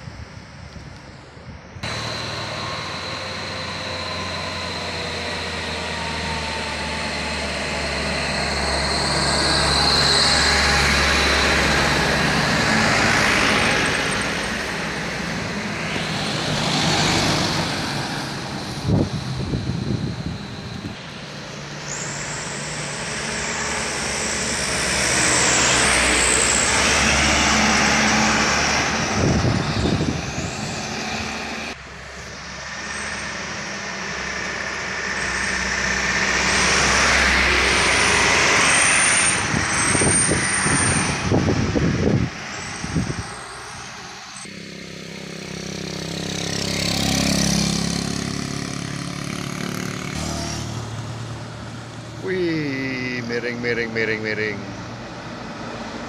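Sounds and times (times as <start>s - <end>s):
diesel trucks passing: 0.0s - 56.0s
motorcycles passing: 1.8s - 56.0s.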